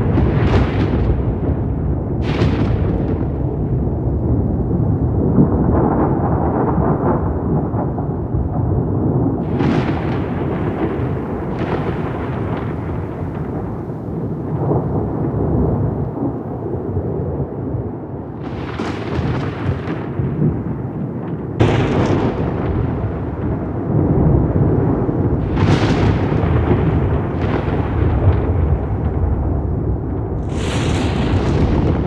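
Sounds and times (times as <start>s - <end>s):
sharp thunder cracks: 0.0s - 32.0s
thunder rumbling: 0.0s - 32.0s.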